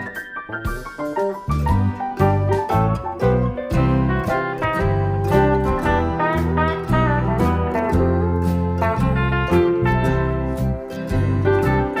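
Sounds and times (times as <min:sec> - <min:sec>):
upbeat guitar instrumental: 0:00.0 - 0:12.0.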